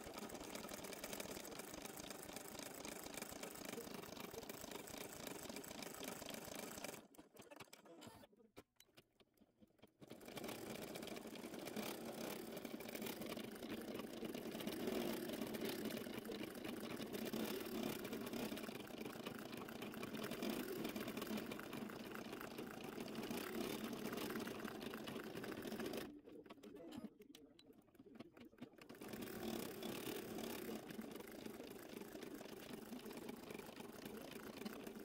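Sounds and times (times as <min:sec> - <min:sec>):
embroidery machine needle clatter: 0:00.0 - 0:35.0.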